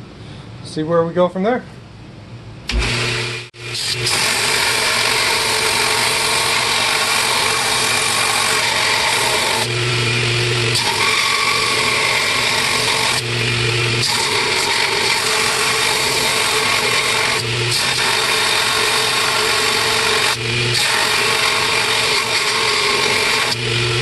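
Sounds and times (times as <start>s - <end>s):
electric grinder grinding steel: 2.7s - 24.0s.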